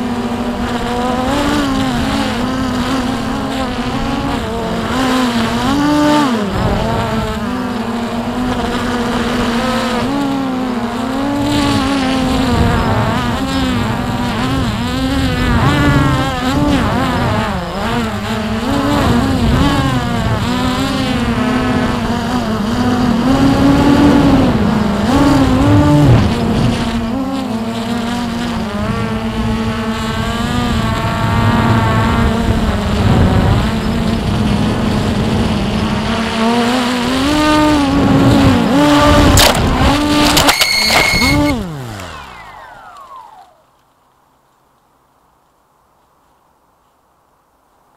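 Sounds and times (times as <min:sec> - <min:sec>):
drone propellers whining: 0:00.0 - 0:43.8.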